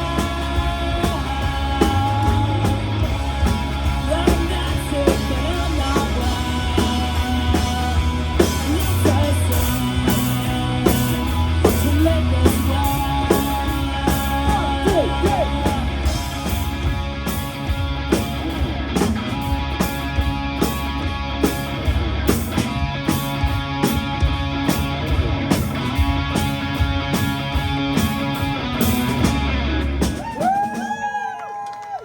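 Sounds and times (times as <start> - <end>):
electric guitar lead lines: 0.0 - 30.2
bass guitar: 0.0 - 31.1
drum kit: 0.0 - 31.4.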